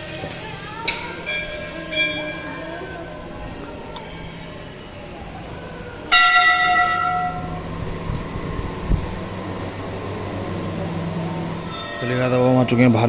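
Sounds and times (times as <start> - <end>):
temple bell ringing: 1.0 - 8.6, 10.0 - 13.0.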